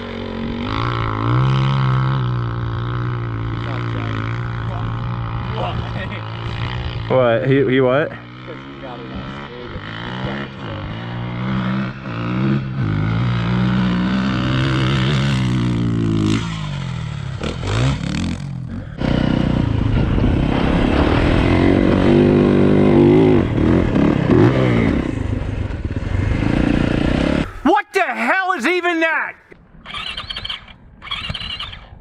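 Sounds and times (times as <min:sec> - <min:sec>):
dirt bike engine revving: 0:00.0 - 0:27.6.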